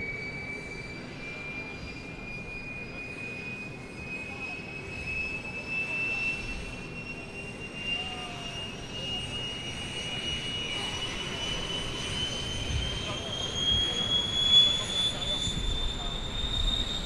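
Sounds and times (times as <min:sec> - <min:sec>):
jet engines rumbling with high whine: 0:00.0 - 0:17.0.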